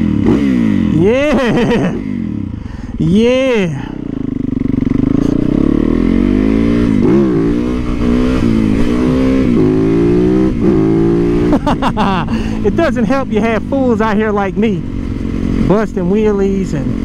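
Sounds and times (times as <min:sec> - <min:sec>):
motorcycle engine revving hard: 0:00.0 - 0:17.0.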